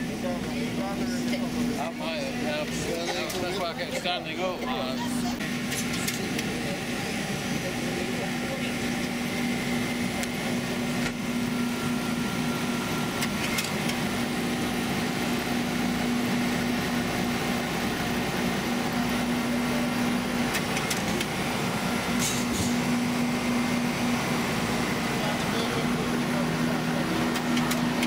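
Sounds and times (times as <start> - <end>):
railway coach machinery hum: 0.0 - 28.0.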